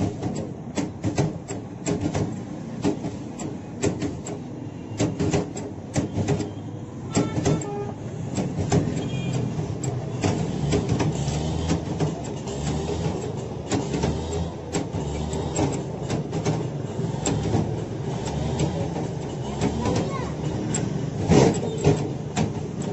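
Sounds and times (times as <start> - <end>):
fry cutter clacking: 0.0 - 22.9.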